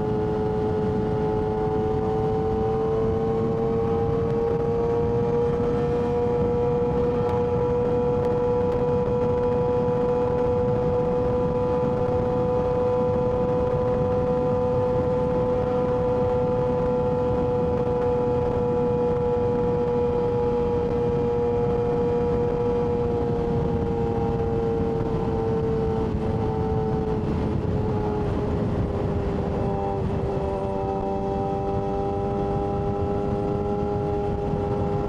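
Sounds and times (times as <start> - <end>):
motorcycle engine running: 0.0 - 35.0
steady rushing noise: 0.0 - 35.0.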